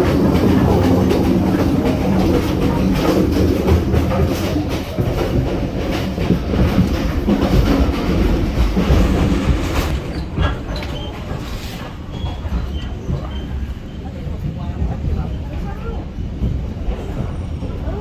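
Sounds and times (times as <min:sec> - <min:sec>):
wheels clattering over rail joints: 0:00.0 - 0:15.1
train rumble: 0:00.0 - 0:18.0.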